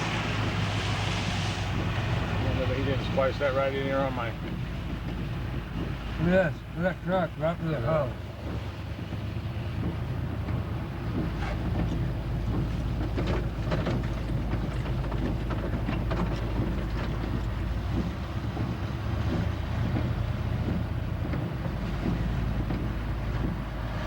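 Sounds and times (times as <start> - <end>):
vehicle driving rumble: 0.0 - 24.0
wind buffeting microphone: 0.0 - 24.0.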